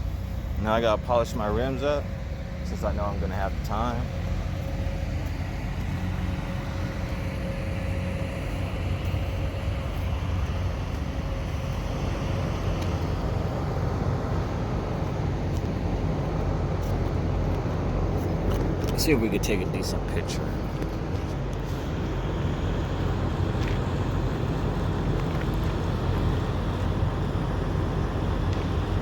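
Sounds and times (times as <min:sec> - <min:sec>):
diesel engine humming: 0:00.0 - 0:29.0.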